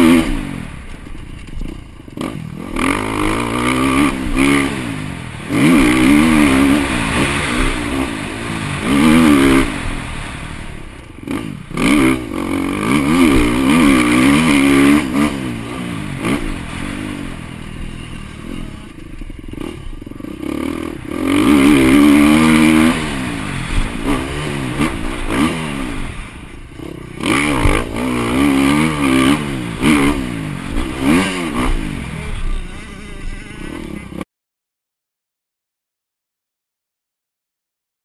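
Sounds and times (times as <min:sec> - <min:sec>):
motocross bike engine revving: 0:00.0 - 0:34.2.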